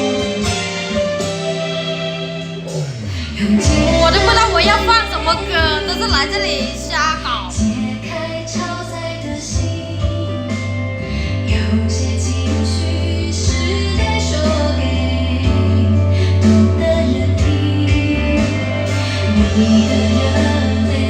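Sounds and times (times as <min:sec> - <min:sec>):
pop song with singing: 0:00.0 - 0:21.0.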